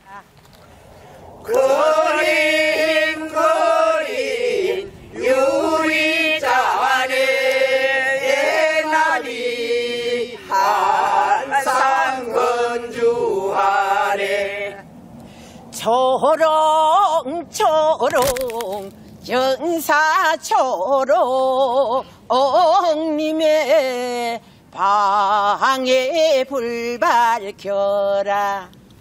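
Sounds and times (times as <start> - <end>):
people singing unaccompanied: 1.4 - 14.9, 15.8 - 28.7.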